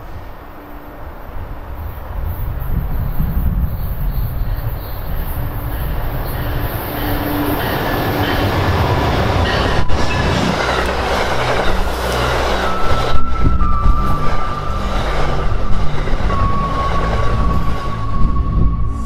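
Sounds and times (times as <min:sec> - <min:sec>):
train rumbling past: 0:00.0 - 0:19.0
high wheel squeal: 0:03.4 - 0:19.0.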